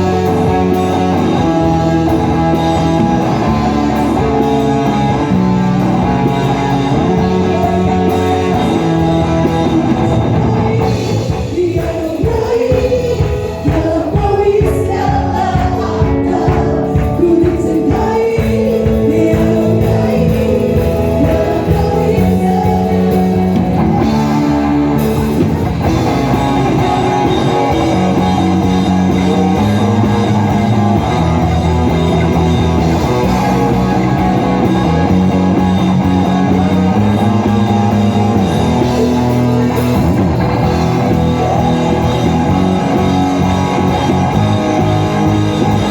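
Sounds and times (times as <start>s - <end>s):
person singing: 0.0s - 45.9s
worship band playing: 0.0s - 45.9s.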